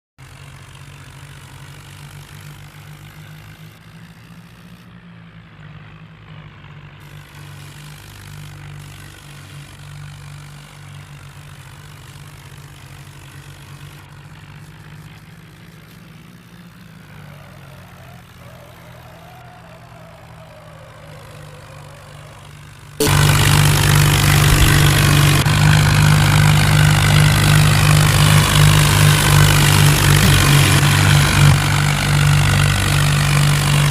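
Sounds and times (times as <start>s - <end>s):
diesel tractor engine running: 0.2s - 33.9s.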